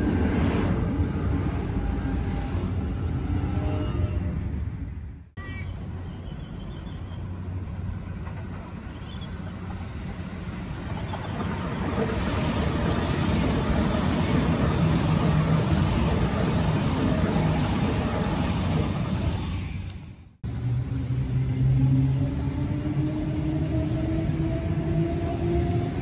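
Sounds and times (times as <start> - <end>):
train passing with rumble: 0.0 - 26.0.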